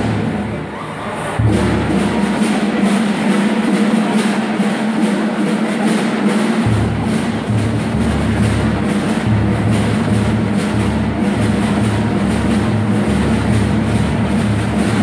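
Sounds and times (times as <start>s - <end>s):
drumline steady beat: 0.0s - 15.0s
marching band playing: 0.0s - 15.0s.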